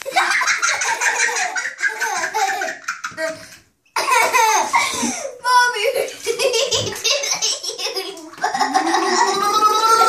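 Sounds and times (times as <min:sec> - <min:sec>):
young children laughing: 0:00.0 - 0:03.4, 0:04.0 - 0:10.0.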